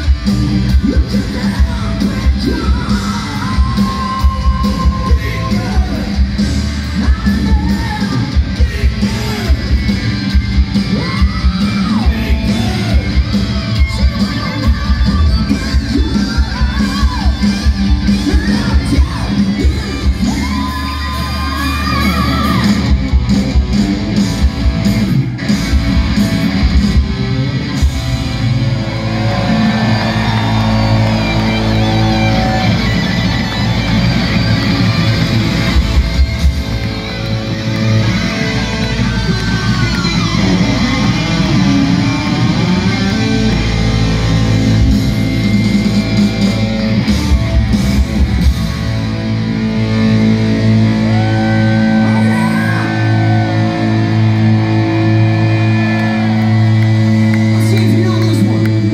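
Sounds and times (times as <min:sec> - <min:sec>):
bending lead guitar line: 0:00.0 - 0:58.9
hard rock band playing live: 0:00.0 - 0:58.9.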